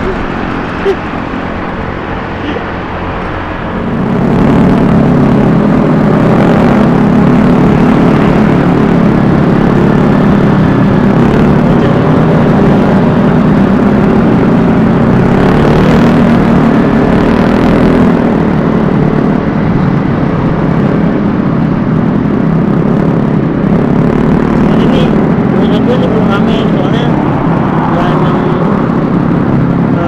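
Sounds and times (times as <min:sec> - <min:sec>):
riding wind on microphone: 0:00.0 - 0:30.0
scooter engine running: 0:00.0 - 0:30.0.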